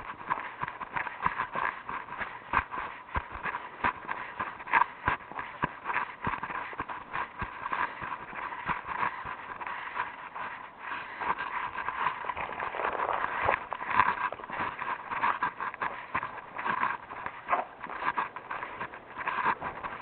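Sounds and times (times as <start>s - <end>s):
footsteps walking: 0.0s - 20.0s.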